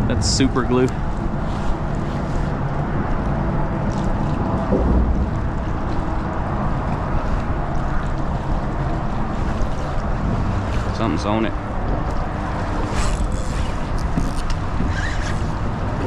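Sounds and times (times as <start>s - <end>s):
water washing around kayak: 0.0s - 16.0s
wind buffeting microphone: 0.0s - 16.0s.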